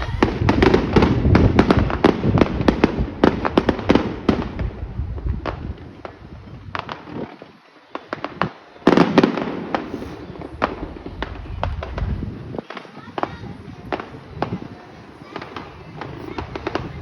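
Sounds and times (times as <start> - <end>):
fireworks cracking and popping: 0.0 - 17.0.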